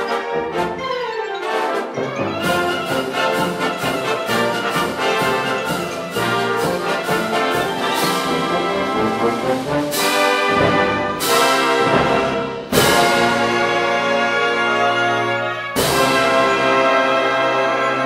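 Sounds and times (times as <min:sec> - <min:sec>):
concert wind band playing: 0:00.0 - 0:18.0
piano: 0:00.0 - 0:18.0.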